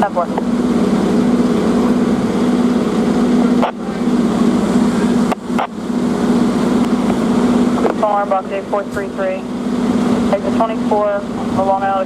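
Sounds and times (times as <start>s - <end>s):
fire engine droning: 0.0s - 12.0s.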